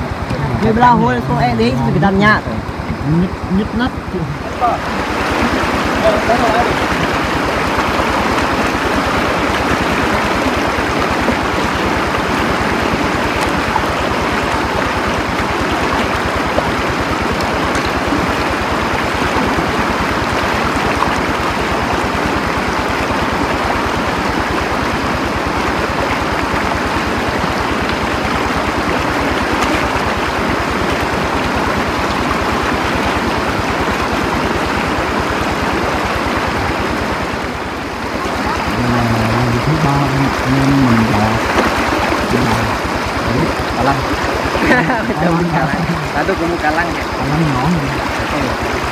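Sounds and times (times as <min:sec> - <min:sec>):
stream water flowing: 0:00.0 - 0:48.9.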